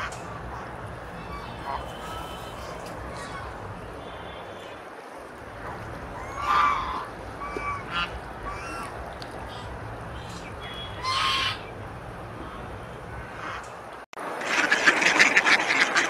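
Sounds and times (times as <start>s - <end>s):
goose honking: 0.0s - 16.0s
steady low background noise: 0.0s - 16.0s.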